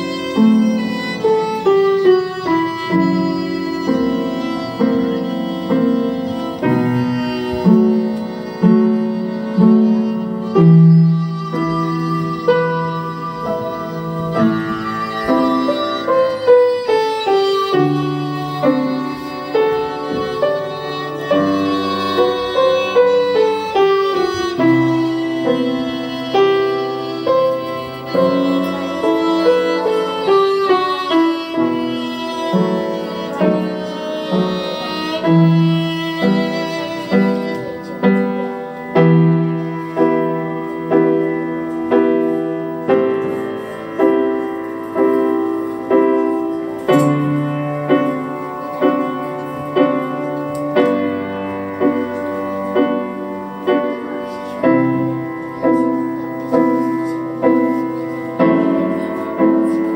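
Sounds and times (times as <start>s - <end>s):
piano accompaniment: 0.0s - 59.9s
violin melody: 0.0s - 59.9s.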